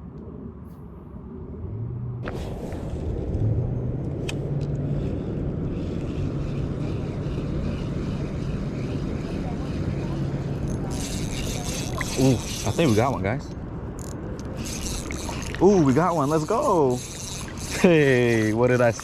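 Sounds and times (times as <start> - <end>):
motor rumble with hum: 1.3 - 19.0.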